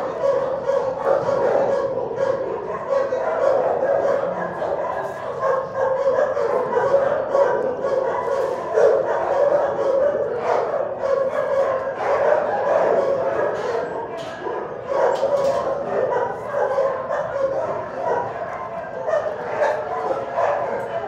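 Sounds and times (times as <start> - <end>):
dogs barking and yipping: 0.0 - 21.0.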